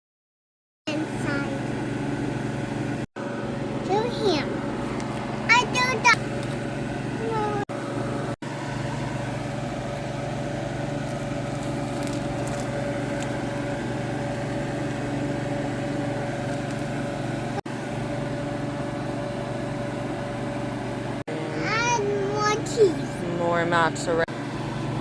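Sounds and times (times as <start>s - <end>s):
mechanical hum with faint whine: 0.9s - 25.0s.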